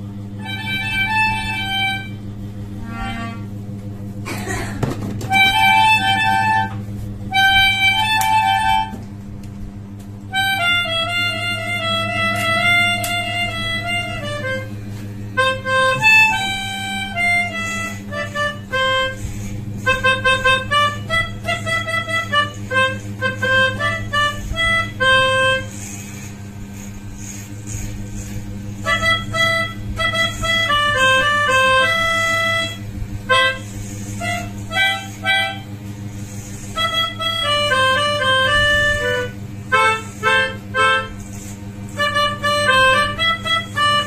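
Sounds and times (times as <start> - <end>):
melodica playing simple tune: 0.0 - 3.6, 5.2 - 9.0, 10.3 - 44.0.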